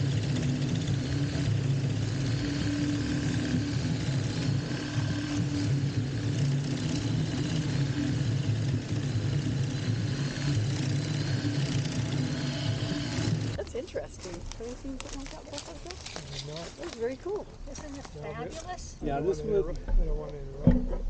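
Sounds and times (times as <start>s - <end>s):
constant hum: 0.0s - 21.0s
low mechanical rumble: 0.0s - 21.0s.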